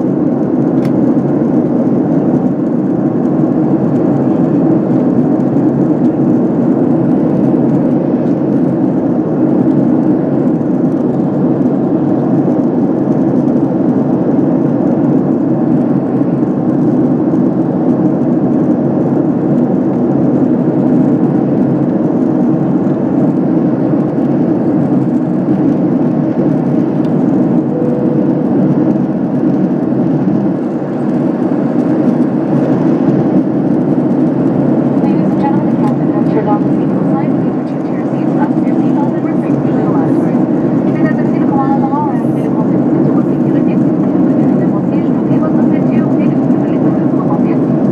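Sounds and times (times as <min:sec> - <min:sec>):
airliner cabin rumble: 0:00.0 - 0:47.9.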